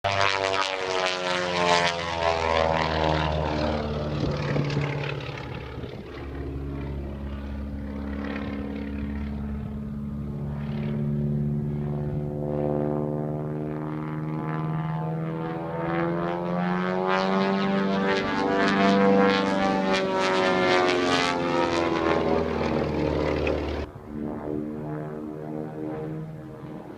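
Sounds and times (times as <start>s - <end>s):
propeller airplane flying past: 0.0s - 26.9s.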